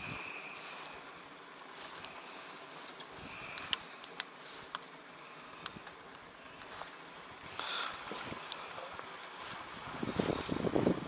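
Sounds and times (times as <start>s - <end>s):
faint outdoor background: 0.0s - 11.0s.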